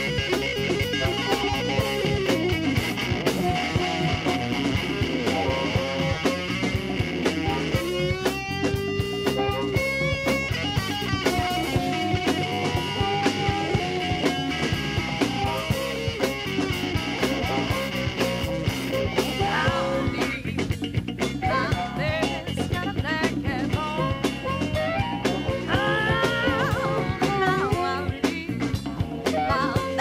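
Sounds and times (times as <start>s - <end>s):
rock song with guitar and drums: 0.0s - 30.0s.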